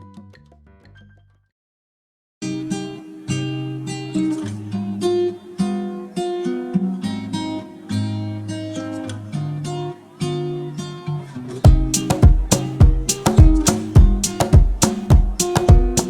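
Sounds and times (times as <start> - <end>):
acoustic guitar strumming: 2.4 - 16.0.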